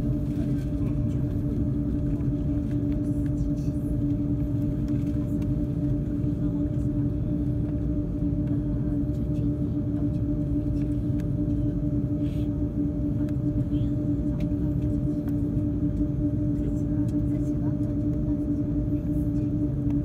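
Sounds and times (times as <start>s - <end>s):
aircraft cabin low rumble: 0.0s - 20.0s
constant hum: 0.0s - 20.0s.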